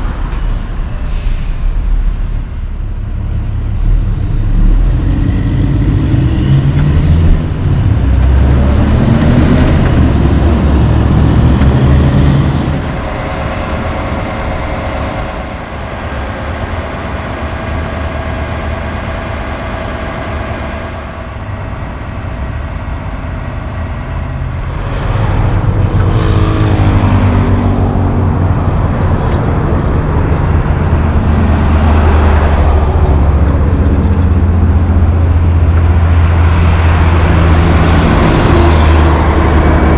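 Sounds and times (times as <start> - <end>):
diesel trucks driving past: 0.0 - 39.9
steady engine hum: 0.0 - 39.9.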